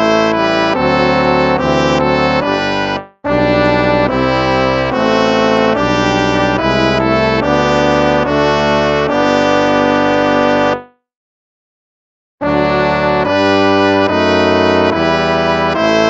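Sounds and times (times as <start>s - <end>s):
brass hymn chords: 0.0s - 10.9s, 12.4s - 16.0s.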